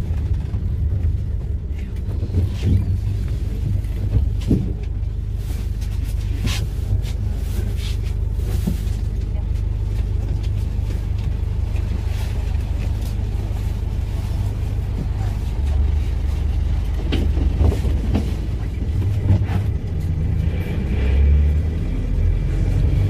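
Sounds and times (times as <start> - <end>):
diesel engine drone: 0.0 - 23.0
road rumble: 0.0 - 23.0.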